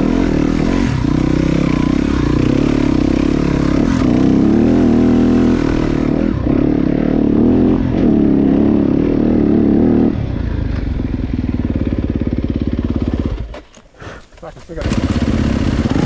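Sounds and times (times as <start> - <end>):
dirt bike engine revving: 0.0 - 13.5, 14.8 - 16.0.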